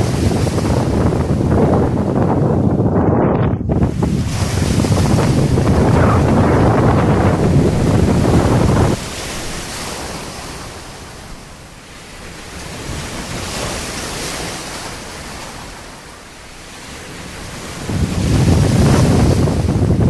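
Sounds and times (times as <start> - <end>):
waves breaking on beach: 0.0 - 2.7, 3.7 - 20.0.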